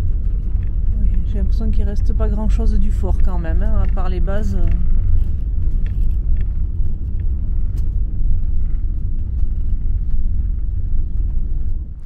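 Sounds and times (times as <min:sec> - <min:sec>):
motorhome engine rumble: 0:00.0 - 0:12.0.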